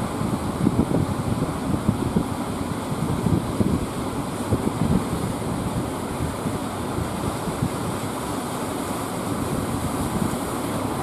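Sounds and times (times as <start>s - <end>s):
wind buffeting microphone: 0.0s - 8.4s, 9.2s - 11.0s
breaking surf and waves: 0.0s - 11.0s.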